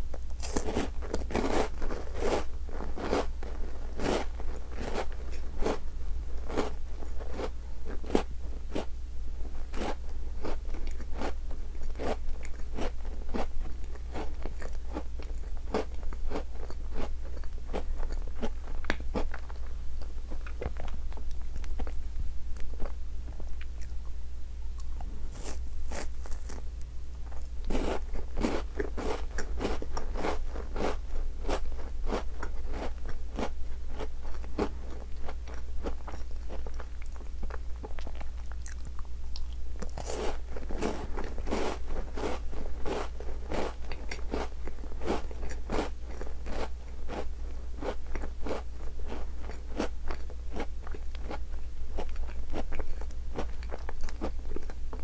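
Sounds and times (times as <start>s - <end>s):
crunching while chewing: 0.1s - 8.9s, 9.6s - 24.1s, 24.8s - 55.0s.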